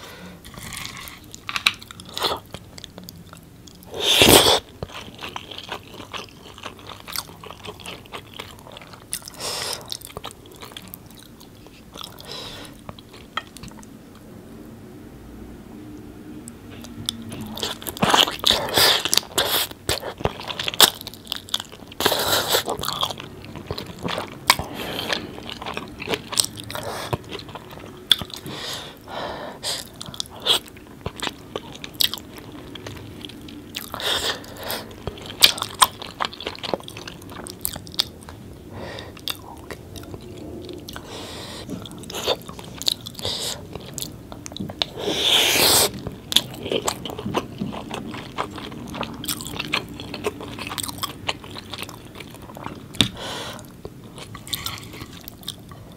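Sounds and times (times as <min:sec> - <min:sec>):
person chewing with wet mouth sounds: 0:00.0 - 0:14.2, 0:16.4 - 0:55.9.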